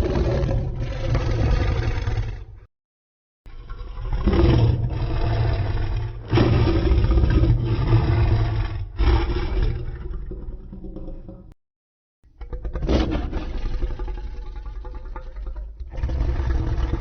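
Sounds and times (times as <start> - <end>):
deep monster roar: 0.0 - 2.7, 3.6 - 11.5, 12.4 - 15.3, 15.9 - 17.0.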